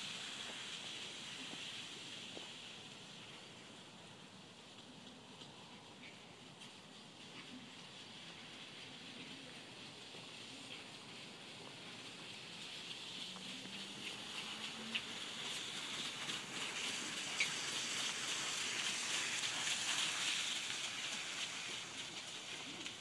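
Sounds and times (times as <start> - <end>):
cart wheels and hooves on gravel: 0.0 - 23.0.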